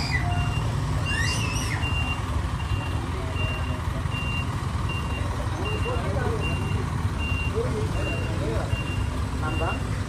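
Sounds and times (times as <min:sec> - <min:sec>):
truck engine rumbling: 0:00.0 - 0:10.0
reversing alarm beeping: 0:01.8 - 0:10.0.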